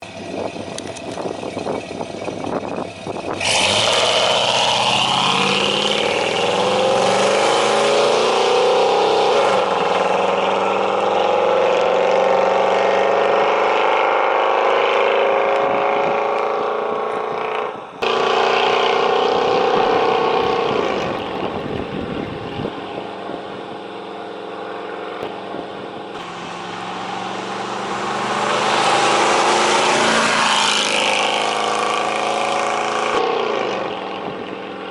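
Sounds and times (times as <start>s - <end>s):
loud throaty pickup engine: 0.0s - 34.9s.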